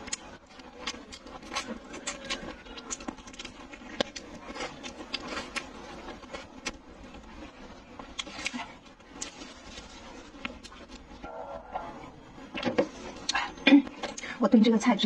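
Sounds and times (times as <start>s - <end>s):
chewing: 0.0s - 14.3s.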